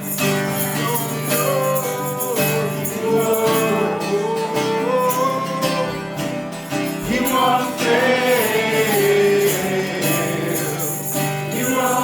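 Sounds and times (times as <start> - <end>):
acoustic guitar playing: 0.0 - 12.0
person singing: 0.0 - 12.0.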